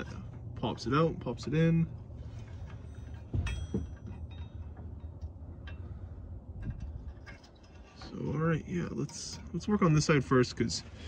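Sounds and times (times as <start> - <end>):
metal hitch clicking and clinking: 0.0 - 10.6
steady low hum: 0.0 - 11.0.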